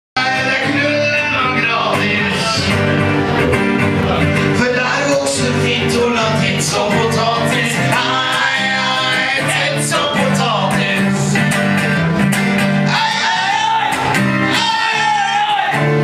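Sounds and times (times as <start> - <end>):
man singing into a microphone: 0.2 - 3.0, 4.2 - 11.5, 12.8 - 16.0
guitar strumming: 0.2 - 16.0.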